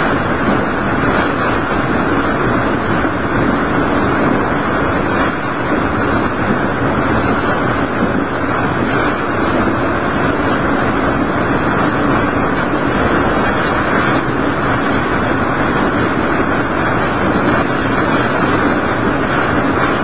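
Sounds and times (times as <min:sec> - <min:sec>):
railcar engine and wheels running: 0:00.0 - 0:20.0.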